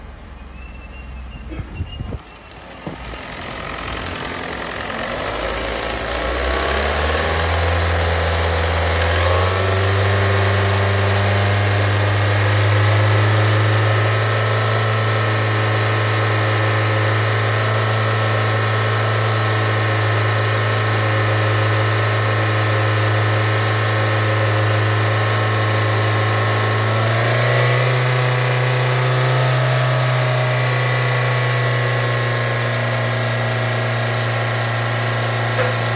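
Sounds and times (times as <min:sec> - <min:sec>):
car engine running: 0:02.4 - 0:35.9.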